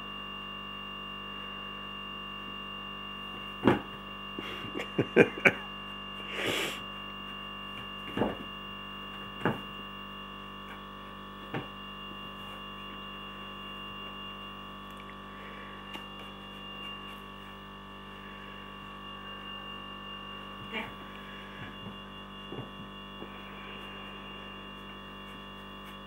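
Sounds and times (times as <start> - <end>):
electrical hum with tones: 0.0 - 26.0.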